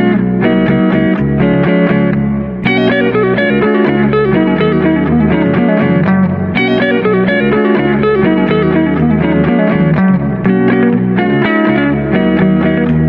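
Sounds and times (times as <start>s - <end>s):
guitar background music: 0.0s - 13.0s.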